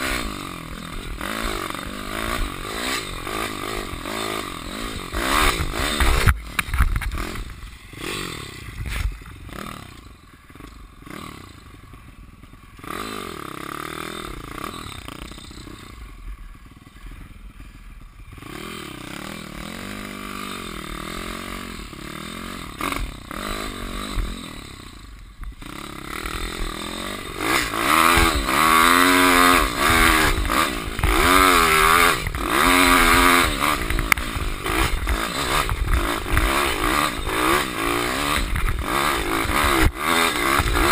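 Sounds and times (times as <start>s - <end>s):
pit bike engine revving: 0.0s - 40.9s.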